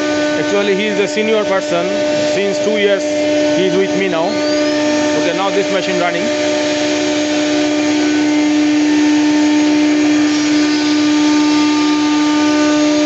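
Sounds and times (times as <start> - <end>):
router spindles whining: 0.0 - 13.0.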